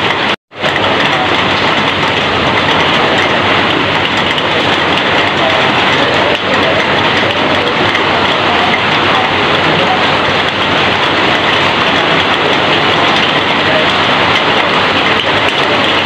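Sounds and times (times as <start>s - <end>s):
heavy rain on corrugated roof: 0.0s - 16.0s.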